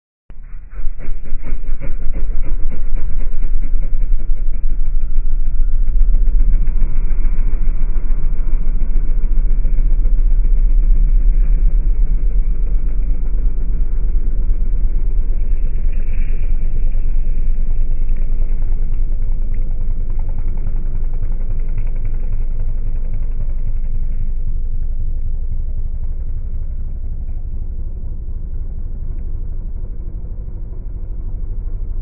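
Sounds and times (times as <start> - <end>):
slowed car engine running: 0.3 - 32.0.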